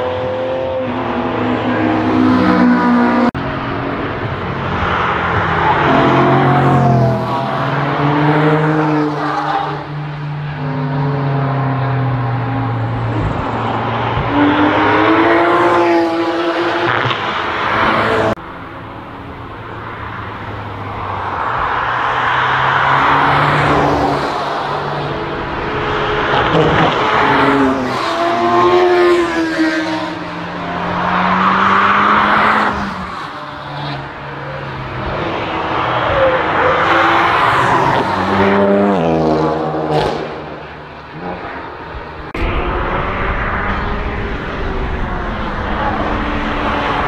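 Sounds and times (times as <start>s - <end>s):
cars accelerating past: 0.0s - 47.0s.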